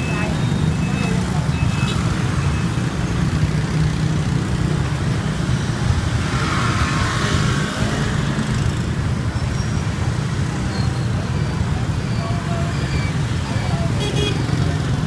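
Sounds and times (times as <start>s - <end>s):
motorbike traffic drone: 0.0s - 15.0s.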